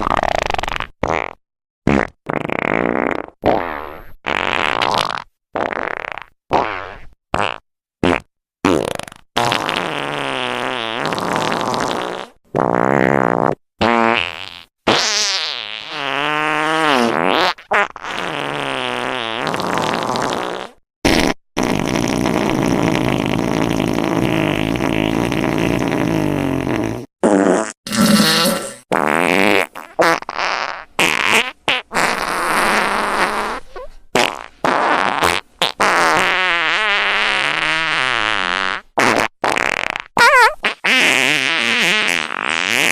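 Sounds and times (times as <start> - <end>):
fart sound effects: 0.0 - 42.9.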